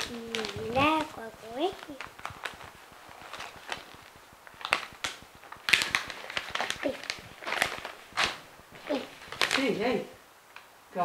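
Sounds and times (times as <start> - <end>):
wrapping paper crinkling: 0.0 - 10.7.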